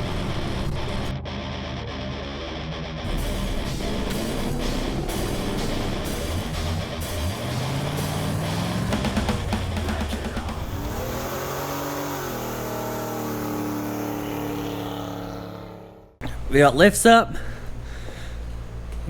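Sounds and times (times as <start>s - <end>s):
car engine revving: 0.0s - 16.3s
rock music: 0.0s - 16.3s.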